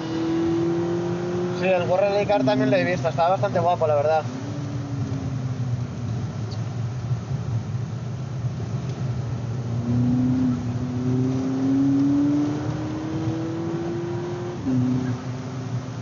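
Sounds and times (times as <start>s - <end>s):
car engine accelerating: 0.0s - 16.0s
tyre and road noise: 0.0s - 16.0s.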